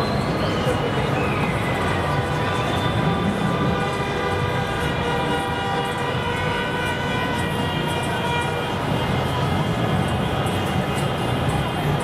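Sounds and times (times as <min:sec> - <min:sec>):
idling traffic rumble: 0:00.0 - 0:12.0.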